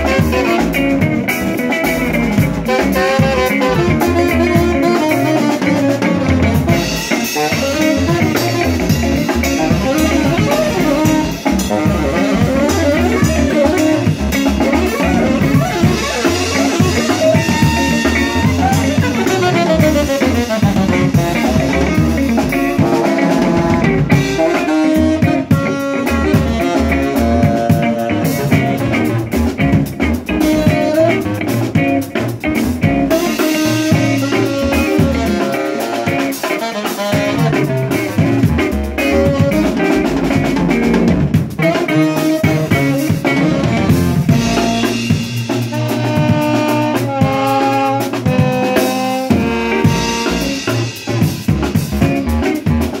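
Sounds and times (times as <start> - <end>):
drum kit beat: 0.0 - 53.0
saxophone melody: 0.0 - 53.0.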